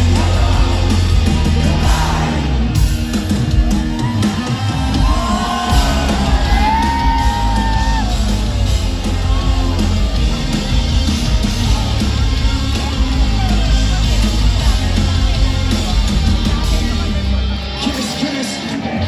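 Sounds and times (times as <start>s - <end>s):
crowd yelling and singing: 0.0s - 19.0s
live rock band playing: 0.0s - 19.0s.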